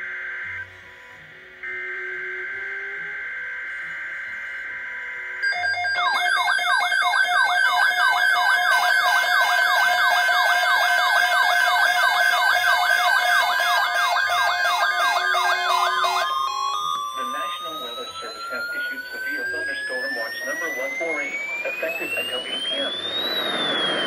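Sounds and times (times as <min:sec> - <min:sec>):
electronic siren alert tone: 0:00.0 - 0:24.0.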